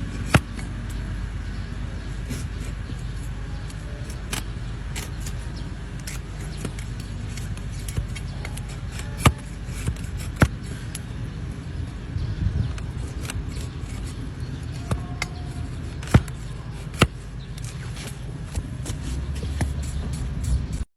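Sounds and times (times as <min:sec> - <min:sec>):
trimming tools snapping hoof: 0:00.0 - 0:01.1, 0:02.1 - 0:11.2, 0:12.7 - 0:20.8
steady low rumble: 0:00.0 - 0:20.8.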